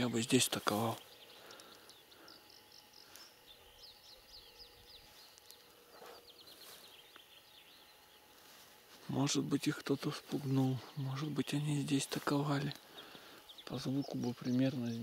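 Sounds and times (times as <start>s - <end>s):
faint songbirds chirping: 0.0s - 15.0s.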